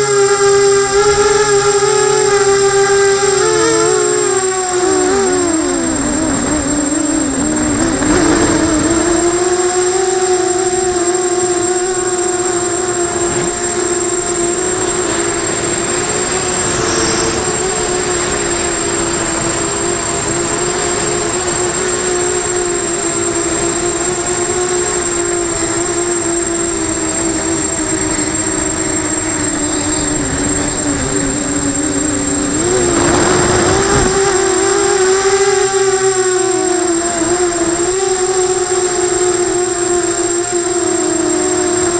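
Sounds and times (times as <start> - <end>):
quadcopter propellers whining: 0.0 - 41.9.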